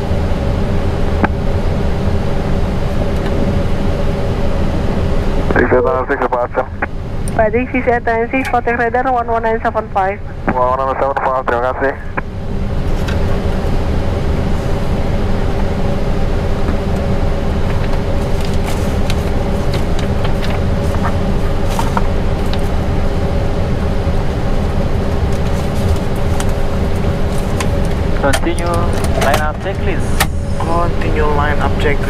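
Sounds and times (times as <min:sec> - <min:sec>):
jet engines idling: 0:00.0 - 0:32.0.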